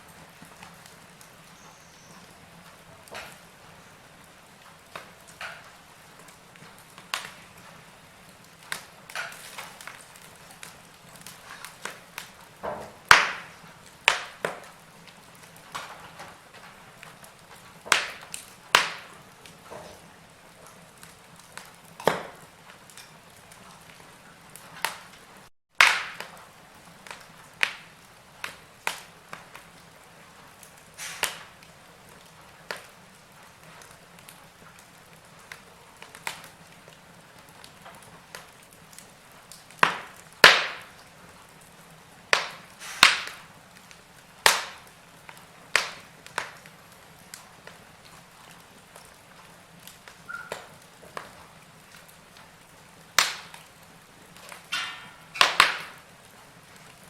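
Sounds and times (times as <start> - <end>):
burning logs crackling: 0.0 - 57.0.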